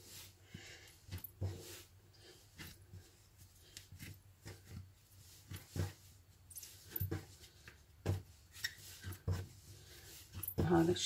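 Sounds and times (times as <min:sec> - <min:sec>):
bread dough kneaded by hand: 0:00.0 - 0:11.0.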